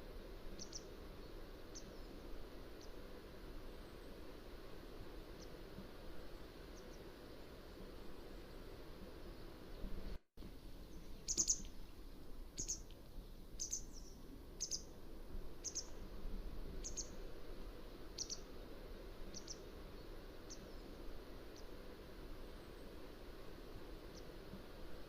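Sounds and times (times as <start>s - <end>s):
low steady background hiss: 0.0s - 25.0s.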